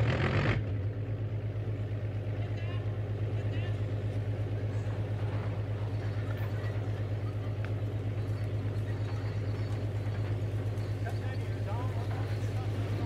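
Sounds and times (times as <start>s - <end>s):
pulsing engine sound effect: 0.0s - 13.0s.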